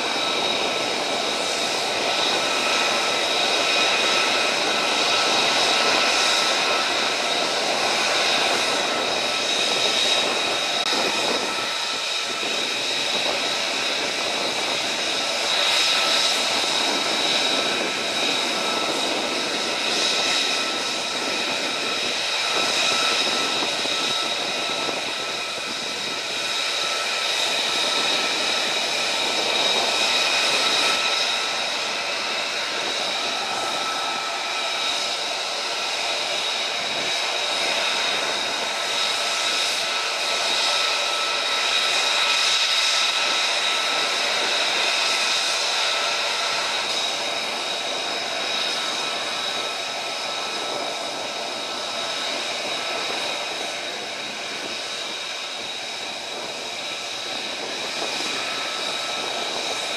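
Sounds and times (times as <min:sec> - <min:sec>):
high turbine whine: 0:00.0 - 0:59.9
jet engines rushing: 0:00.0 - 0:59.9.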